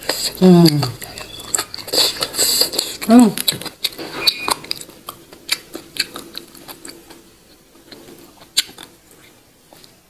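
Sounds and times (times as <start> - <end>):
mouth chewing wetly: 0.0 - 10.0.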